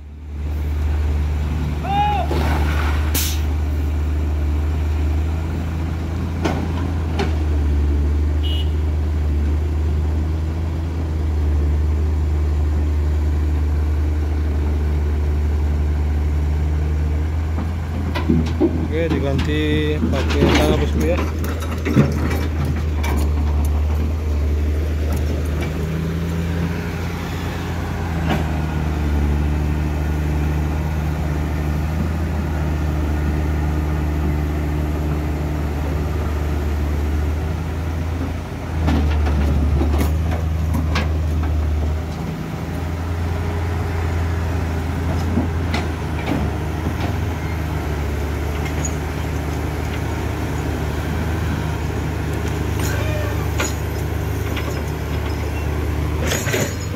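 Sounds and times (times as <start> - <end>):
heavy truck engine running: 0.0 - 56.9.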